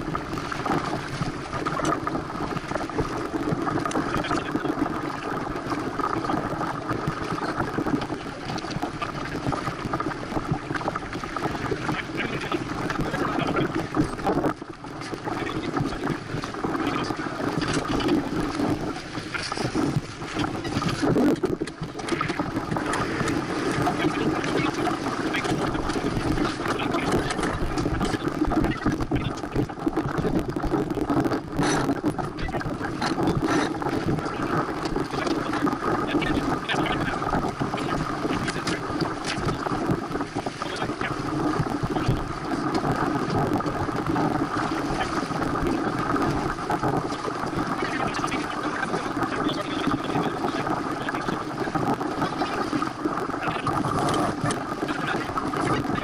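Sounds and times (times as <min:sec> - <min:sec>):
wind and water rushing: 0:00.0 - 0:56.0.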